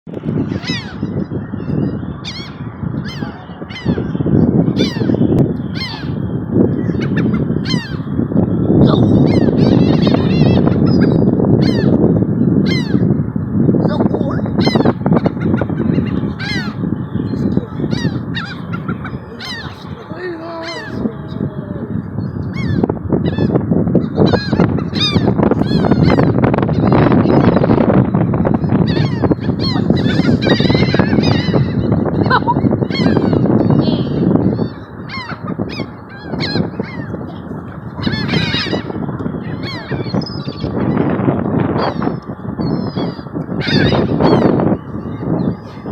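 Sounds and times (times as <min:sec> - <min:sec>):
seagulls calling: 0:00.4 - 0:08.2, 0:08.8 - 0:13.2, 0:14.5 - 0:21.4, 0:22.2 - 0:45.9.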